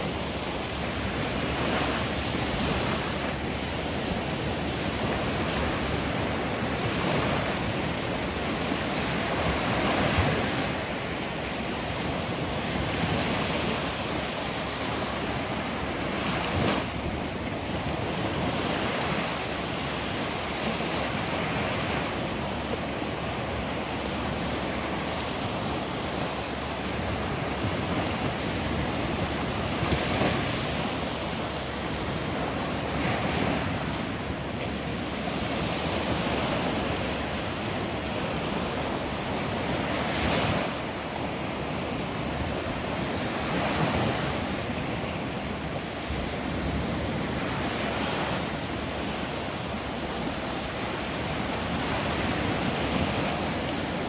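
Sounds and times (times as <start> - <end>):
waves washing in: 0.0 - 54.0.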